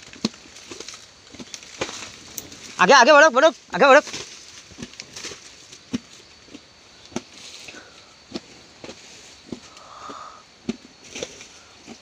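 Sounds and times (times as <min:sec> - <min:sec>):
faint grass rustling: 0:00.0 - 0:12.0.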